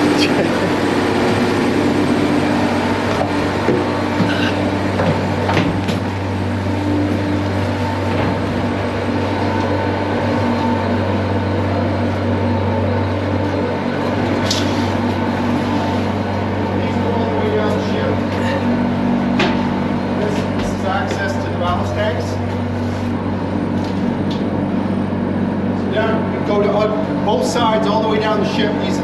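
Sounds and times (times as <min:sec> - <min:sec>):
low hum of ship's machinery: 0:00.0 - 0:29.0.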